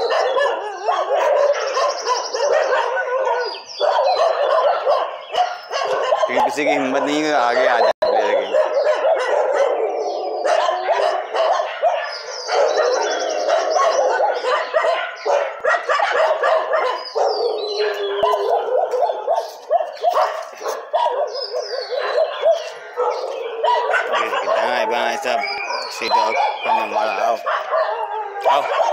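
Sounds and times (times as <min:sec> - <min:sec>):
dogs barking: 0:00.0 - 0:28.9.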